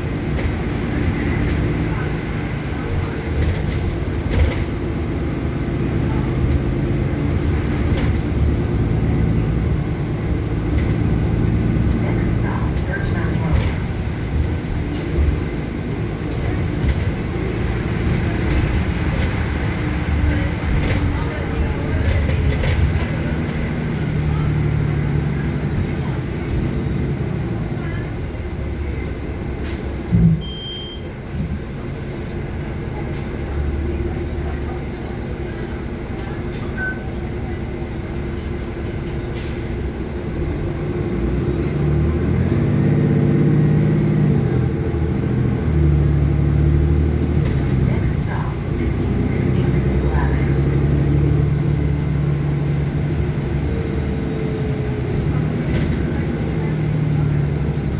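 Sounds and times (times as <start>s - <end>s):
bus engine and road rumble: 0.0s - 57.9s.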